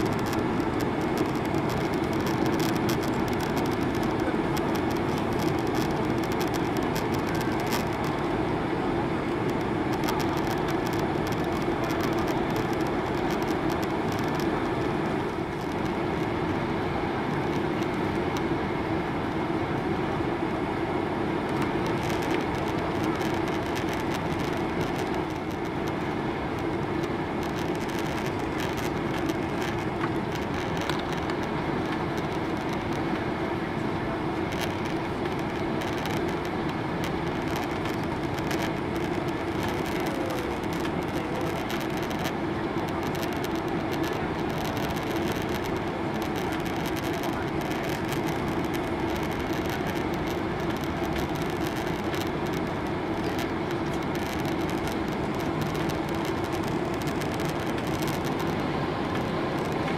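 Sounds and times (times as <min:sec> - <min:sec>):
airliner cabin engine and airflow noise: 0:00.0 - 0:59.9
constant low hum: 0:00.0 - 0:59.9.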